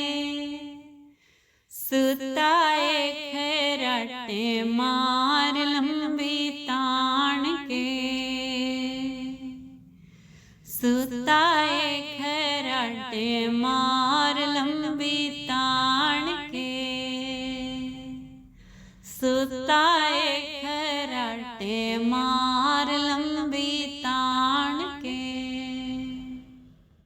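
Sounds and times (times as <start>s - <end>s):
woman singing devotional song: 0.0s - 26.9s.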